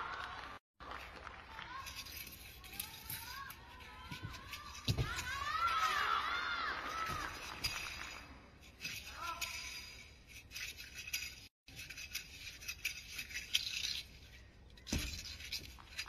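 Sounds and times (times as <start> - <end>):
spear swishing and rattling: 1.7 - 16.0.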